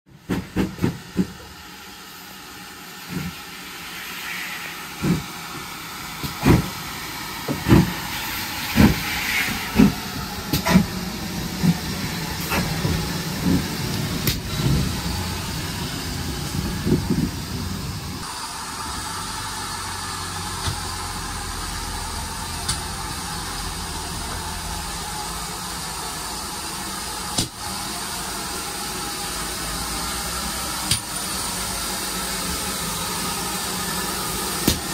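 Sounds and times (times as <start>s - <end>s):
hissing steam: 0.1s - 34.9s
low rumble of locomotive: 0.1s - 34.9s
steam locomotive exhaust beats: 0.1s - 34.9s.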